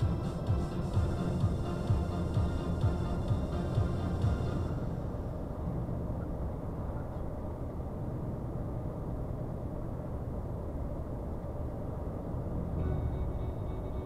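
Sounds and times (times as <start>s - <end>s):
truck diesel engine rumble: 0.0s - 14.0s.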